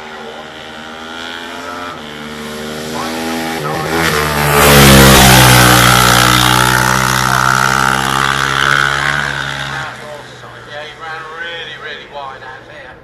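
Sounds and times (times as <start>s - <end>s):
racing motorcycle engine: 0.0s - 13.0s.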